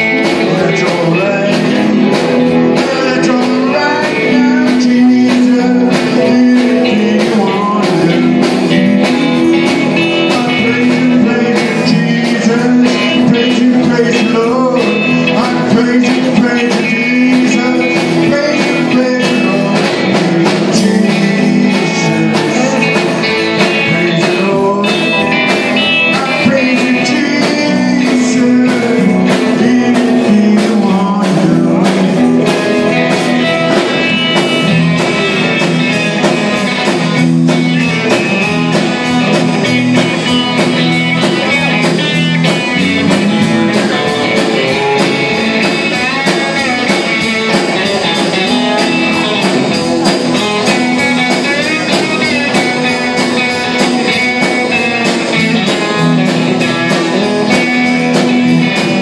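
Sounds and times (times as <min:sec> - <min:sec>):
drum kit steady beat: 0:00.0 - 0:59.0
electric and acoustic guitars: 0:00.0 - 0:59.0.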